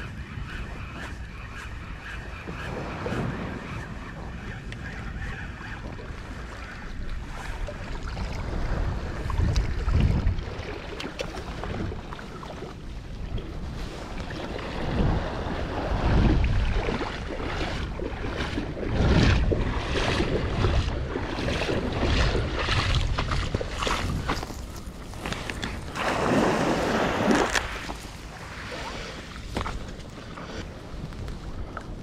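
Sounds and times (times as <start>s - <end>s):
shallow seawater lapping: 0.0s - 32.0s
wind buffeting microphone: 0.0s - 32.0s.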